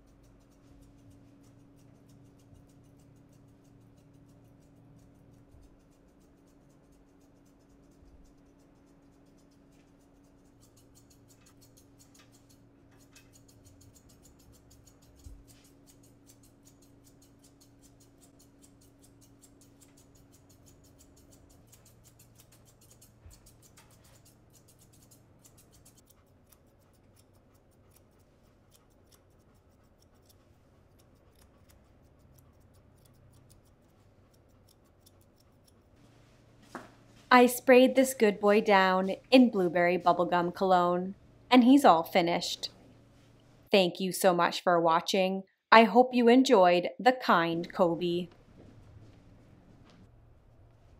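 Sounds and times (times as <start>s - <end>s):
grooming shears snipping fur: 0.0s - 41.0s.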